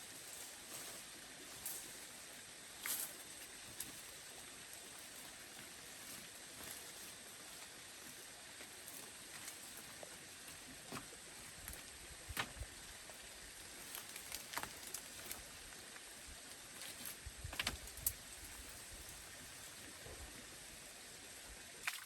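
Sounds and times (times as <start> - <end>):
rain hiss: 0.0 - 21.8.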